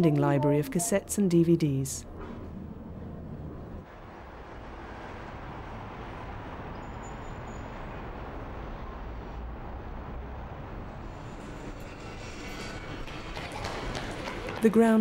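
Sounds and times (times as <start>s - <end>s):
vehicle rumble: 2.0s - 14.6s.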